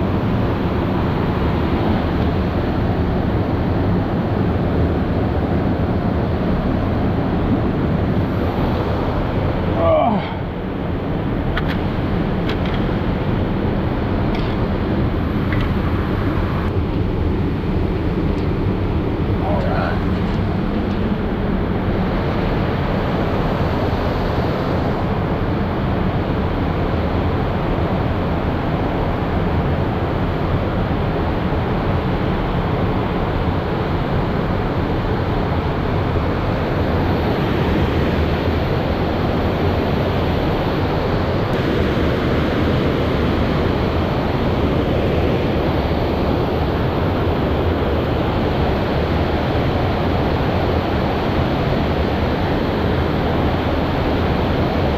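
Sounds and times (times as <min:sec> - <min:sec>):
river water roaring: 0:00.0 - 0:54.9.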